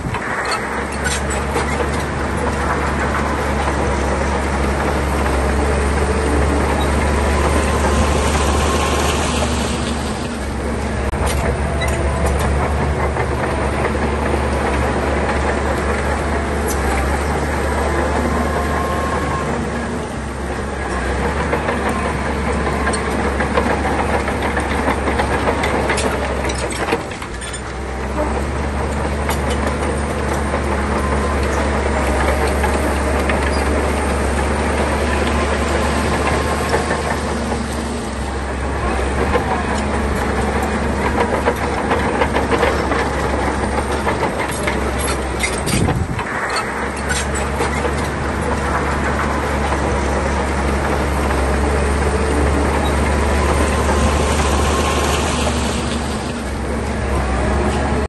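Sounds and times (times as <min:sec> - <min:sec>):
bulldozer diesel engine running: 0:00.0 - 0:58.0
steel tracks clattering: 0:00.0 - 0:58.0.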